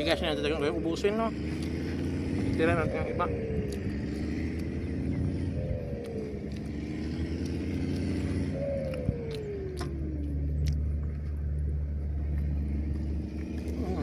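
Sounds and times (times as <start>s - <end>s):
engine passing with falling pitch: 0.0s - 14.0s
vehicle engine humming: 0.0s - 14.0s.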